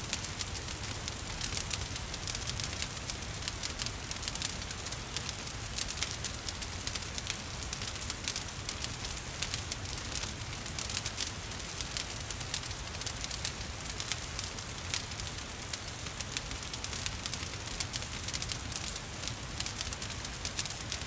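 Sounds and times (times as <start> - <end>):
wood fire crackling and popping: 0.1 - 21.0.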